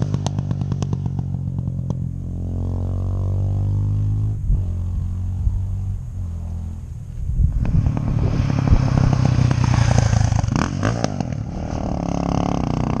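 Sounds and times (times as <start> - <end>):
single-cylinder motorcycle engine revving: 0.0 - 13.0.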